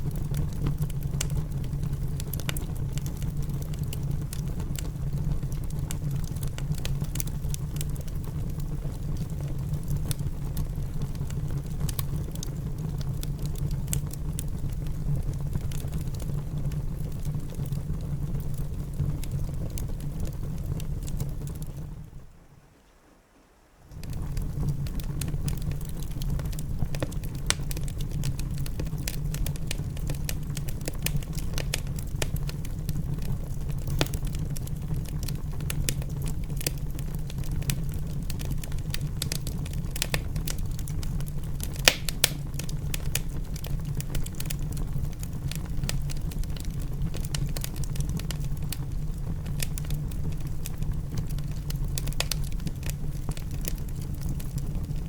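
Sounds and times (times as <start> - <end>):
wood fire crackling and popping: 0.0 - 22.3, 23.9 - 55.0
low fire rumble: 0.0 - 22.7, 23.8 - 55.0.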